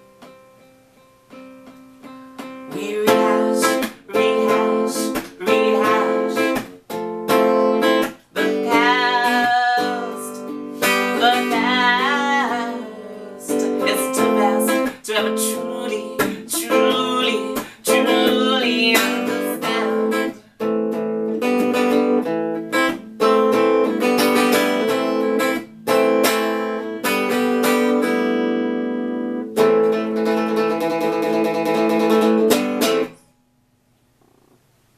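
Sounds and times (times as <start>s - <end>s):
electric guitar strumming chords: 0.0s - 33.2s.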